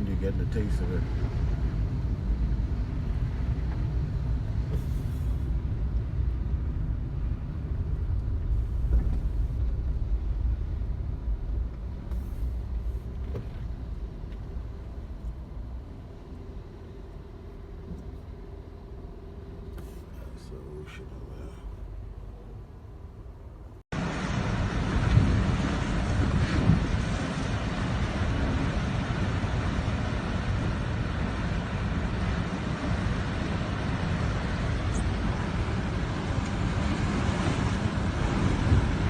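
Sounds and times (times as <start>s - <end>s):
car driving rumble: 0.0s - 39.0s.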